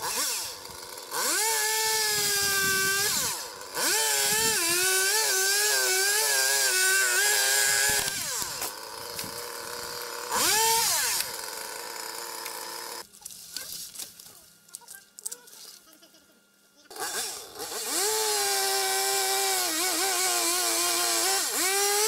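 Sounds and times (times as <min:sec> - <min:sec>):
chainsaw revving and cutting: 0:00.0 - 0:13.1, 0:16.9 - 0:22.0.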